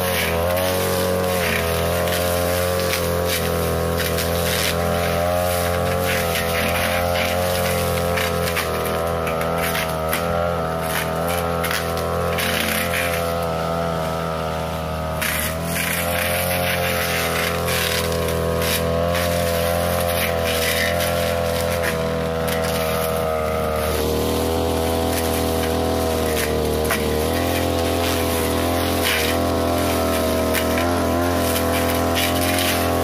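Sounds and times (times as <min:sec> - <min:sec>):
blade cutting through brush: 0:00.0 - 0:33.0
brush cutter engine whine: 0:00.0 - 0:33.0.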